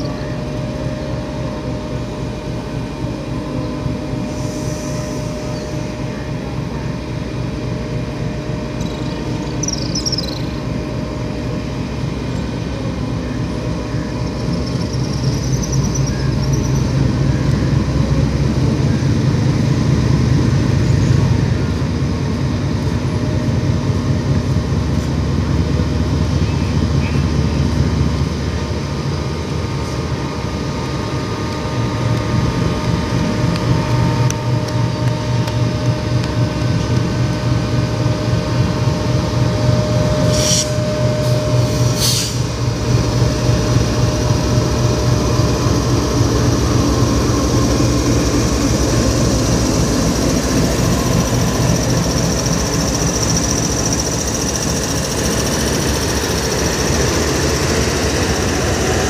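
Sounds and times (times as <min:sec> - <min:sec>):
locomotive engine drone: 0:00.0 - 0:59.0
train wheels rumbling on rails: 0:00.0 - 0:59.0.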